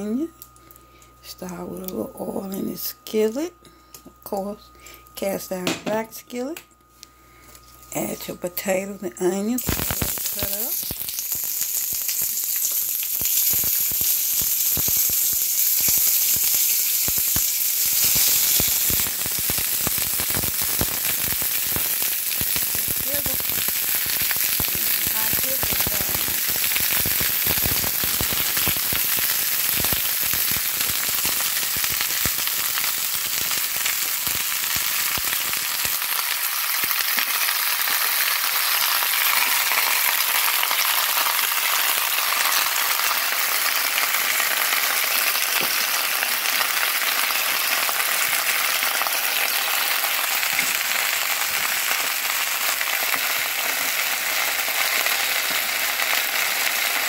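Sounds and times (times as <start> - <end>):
potatoes sizzling in hot oil: 9.5 - 57.0.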